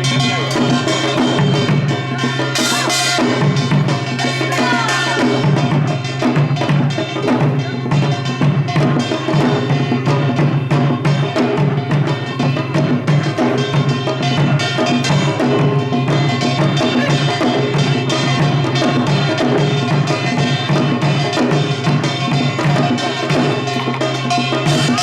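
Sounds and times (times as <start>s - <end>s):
barrel drum: 0.0s - 25.0s
hourglass drum: 0.0s - 25.0s.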